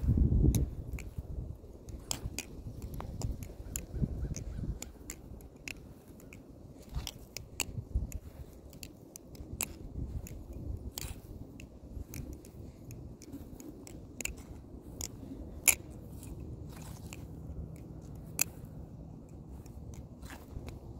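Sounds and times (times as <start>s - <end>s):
butterfly knife clicks and clacks: 0.4s - 20.9s.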